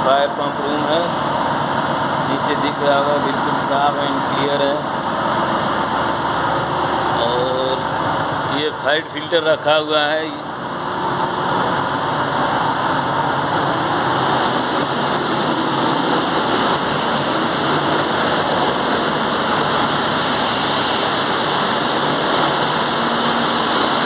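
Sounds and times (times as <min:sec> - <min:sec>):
engine room machinery roar: 0:00.0 - 0:24.0.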